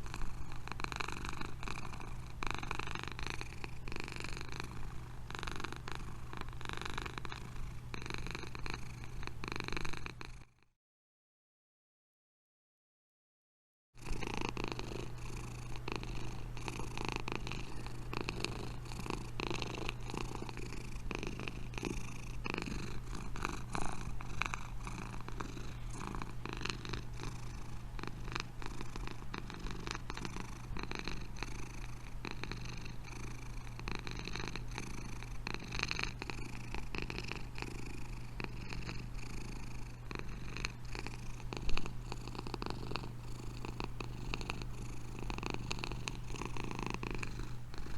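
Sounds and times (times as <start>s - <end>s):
cat purring: 0.0s - 10.6s, 14.0s - 47.9s.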